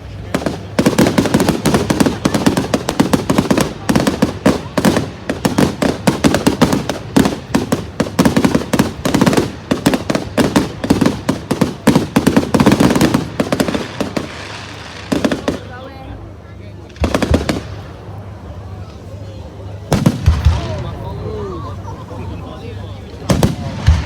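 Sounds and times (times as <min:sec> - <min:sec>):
fireworks banging and crackling: 0:00.0 - 0:24.0.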